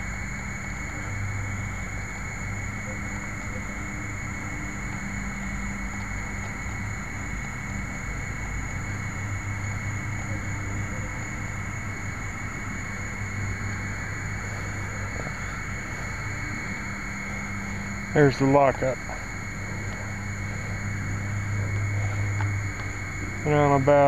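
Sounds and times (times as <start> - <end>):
faint high whine: 0.0 - 24.0
low hum: 0.0 - 24.0
muffled hiss: 0.0 - 24.0.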